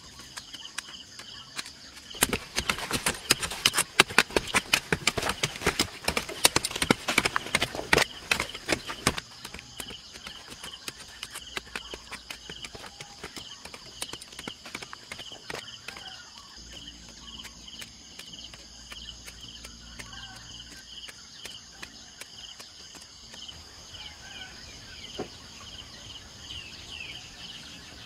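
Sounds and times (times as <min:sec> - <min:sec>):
hoes chopping stony soil: 0:00.0 - 0:23.6
insects trilling: 0:00.0 - 0:28.0.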